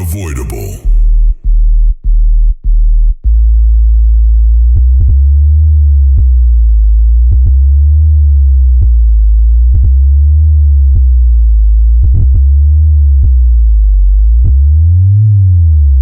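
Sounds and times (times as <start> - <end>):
deep sub-bass tone: 0.0 - 16.0.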